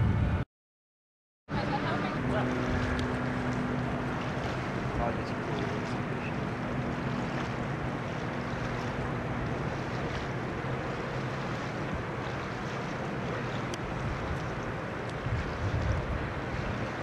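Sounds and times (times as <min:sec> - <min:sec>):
wind buffeting microphone: 0:00.0 - 0:00.4, 0:01.5 - 0:17.0.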